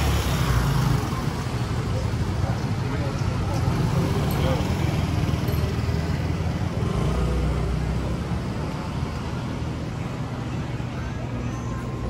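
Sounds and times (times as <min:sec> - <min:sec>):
street noise: 0:00.0 - 0:12.0
vehicle engine rumbling: 0:00.0 - 0:12.0.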